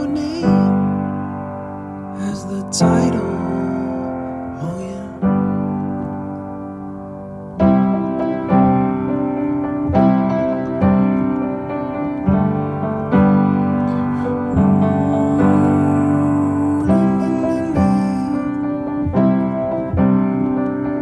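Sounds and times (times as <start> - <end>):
instrumental music with ringing chords: 0.0 - 21.0.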